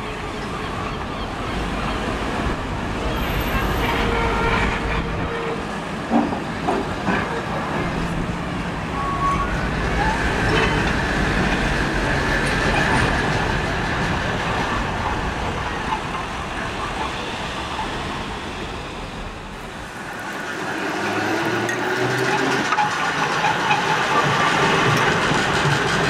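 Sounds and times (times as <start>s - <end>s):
tram motor whine: 0.0s - 26.0s
tram wheels rumbling on rails: 0.0s - 26.0s.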